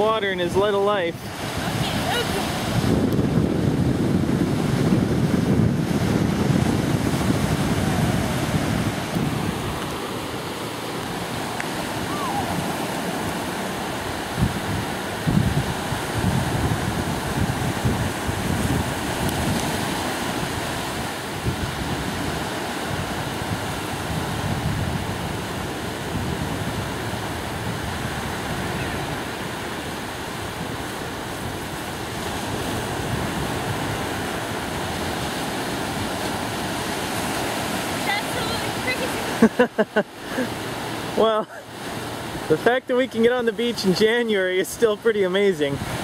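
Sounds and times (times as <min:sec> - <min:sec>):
wind buffeting microphone: 0:00.0 - 0:39.4, 0:45.6 - 0:46.0
surf washing up beach: 0:00.0 - 0:46.0.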